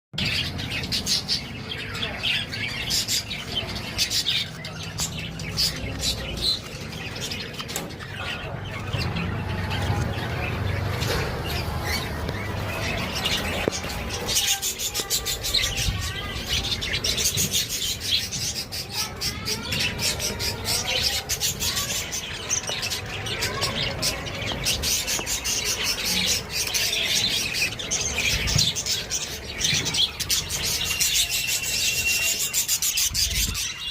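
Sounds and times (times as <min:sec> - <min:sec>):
budgerigars chirping and chattering: 0:00.2 - 0:33.9.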